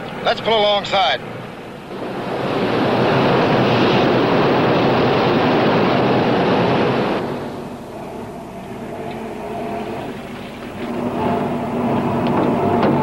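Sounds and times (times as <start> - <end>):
ship bow rushing water and spray: 0.0 - 13.0.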